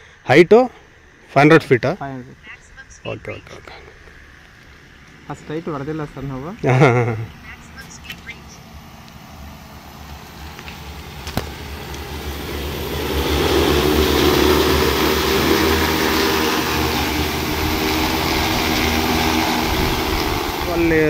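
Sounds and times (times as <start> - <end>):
drone rotors humming: 0.6 - 21.0.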